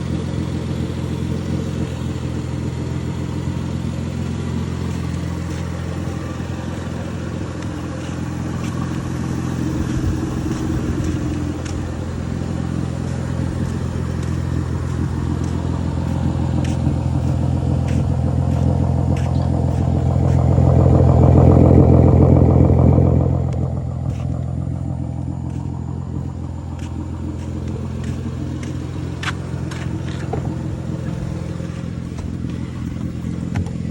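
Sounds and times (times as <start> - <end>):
car engine low drone: 0.0 - 33.9.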